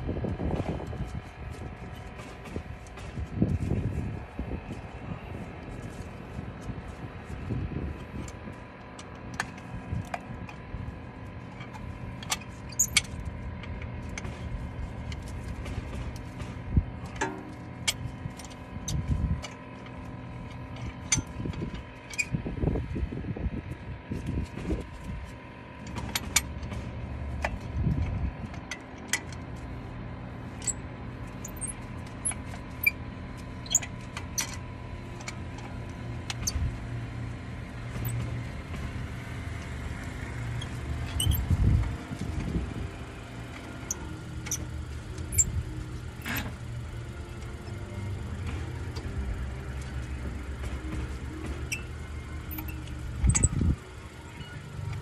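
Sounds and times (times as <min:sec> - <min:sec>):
low motor vehicle hum: 0:00.0 - 0:55.0.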